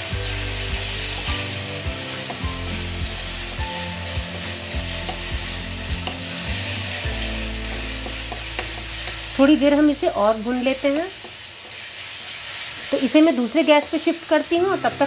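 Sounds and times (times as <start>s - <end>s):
paste sizzling in oil: 0.0s - 15.0s.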